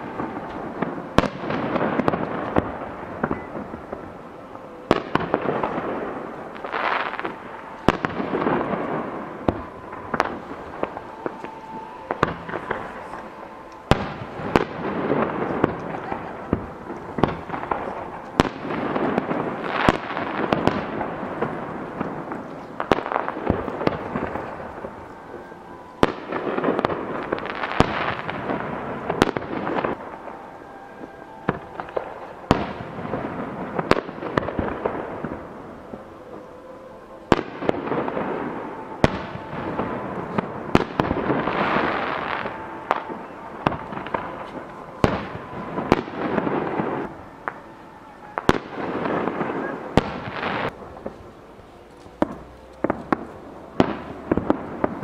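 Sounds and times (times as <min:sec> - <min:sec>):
rumbling echo and crackle: 0:00.0 - 0:55.0.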